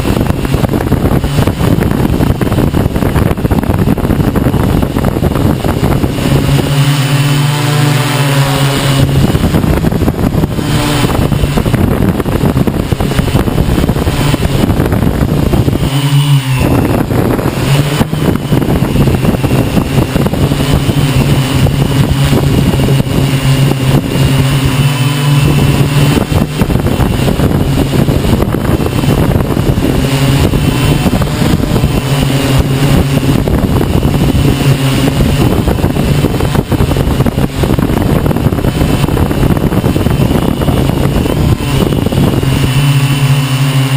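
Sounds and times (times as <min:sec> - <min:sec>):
drone propellers humming: 0:00.0 - 0:43.9
wind buffeting microphone: 0:00.0 - 0:43.9.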